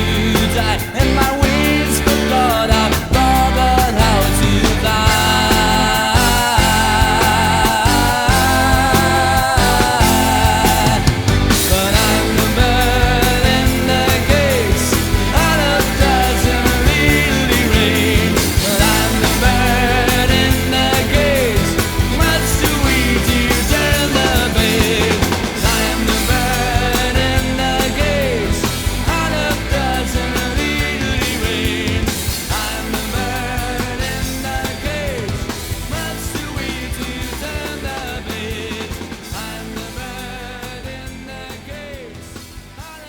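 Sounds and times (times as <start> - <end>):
pop-rock band playing: 0.0 - 43.0.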